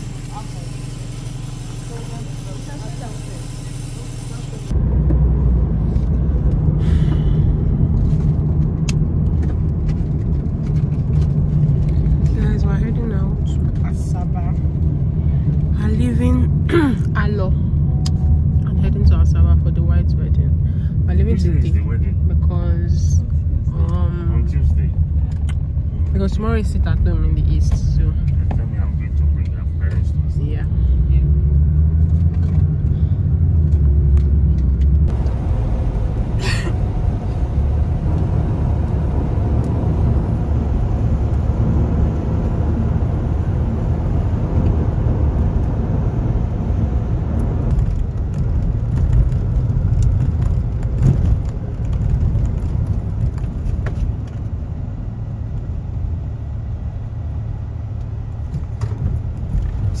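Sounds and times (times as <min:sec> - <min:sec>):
car rumbling on road: 0:00.0 - 1:00.0.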